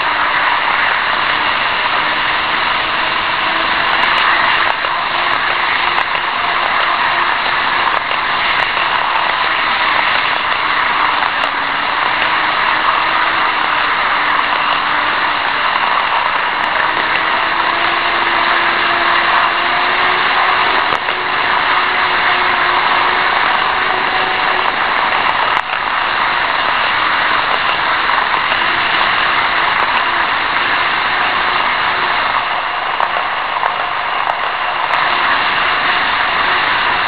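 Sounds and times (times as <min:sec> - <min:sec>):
faint motor whine: 0:00.0 - 0:37.0
model train wheels rattling on rail: 0:00.0 - 0:37.0.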